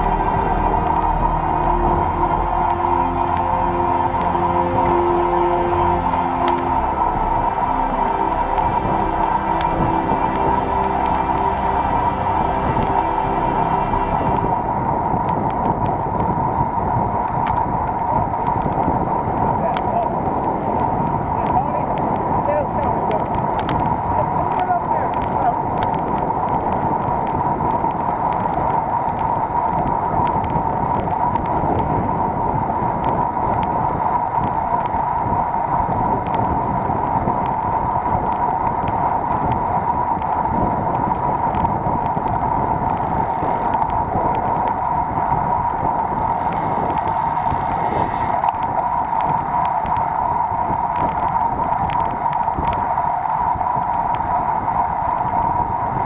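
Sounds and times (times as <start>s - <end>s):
mid-pitched drone: 0.0s - 27.2s, 34.0s - 56.0s
wind and road noise rushing: 0.0s - 56.0s.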